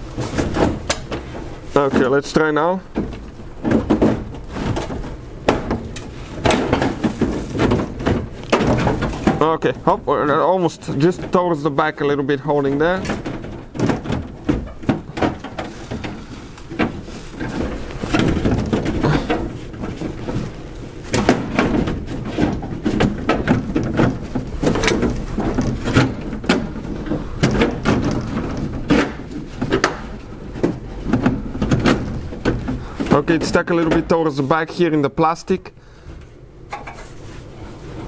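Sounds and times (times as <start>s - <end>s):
car part knocking and rattling: 0.0s - 34.3s, 36.1s - 37.2s.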